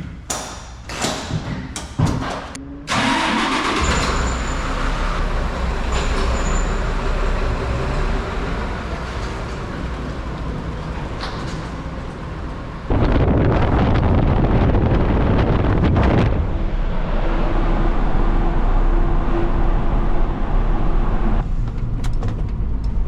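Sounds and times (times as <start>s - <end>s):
engine rumbling: 2.5s - 23.0s.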